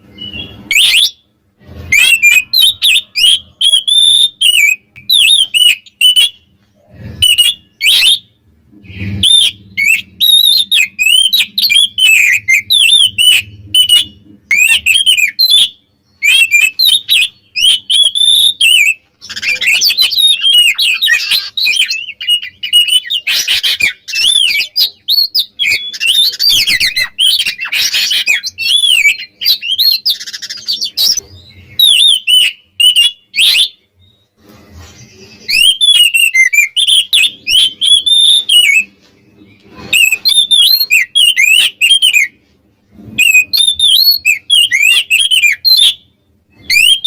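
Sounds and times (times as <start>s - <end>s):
magpie-robin singing: 0.0s - 1.2s, 1.8s - 34.3s, 35.0s - 42.4s, 43.1s - 47.0s.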